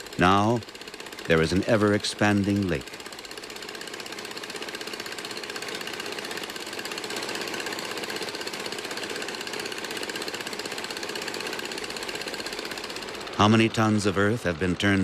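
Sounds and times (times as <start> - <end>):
small engine chugging: 0.0 - 15.0.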